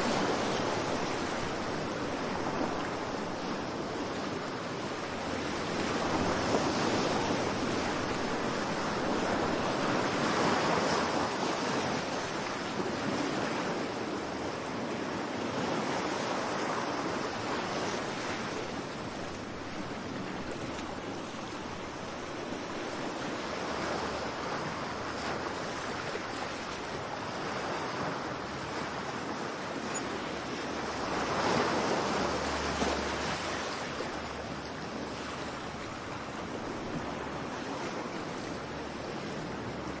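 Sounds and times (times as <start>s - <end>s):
surf waves breaking: 0.0s - 40.0s.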